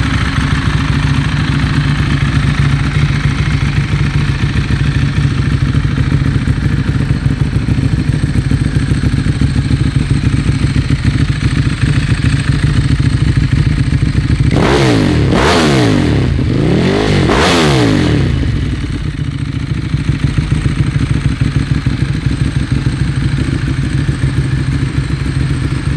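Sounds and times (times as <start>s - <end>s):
motorcycle engine idling and revving: 0.0s - 25.9s.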